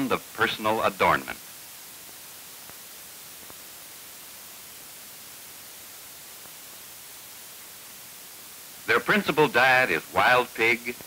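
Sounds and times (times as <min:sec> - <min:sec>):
film soundtrack hiss and static: 0:00.0 - 0:11.0.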